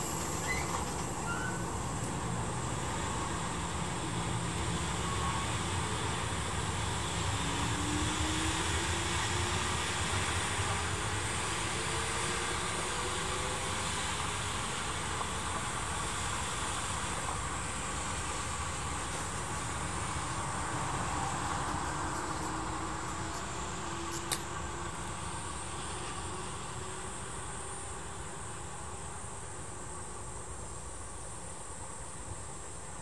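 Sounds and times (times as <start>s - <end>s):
train motor whine: 0.0s - 31.2s
electric train accelerating: 0.0s - 32.9s.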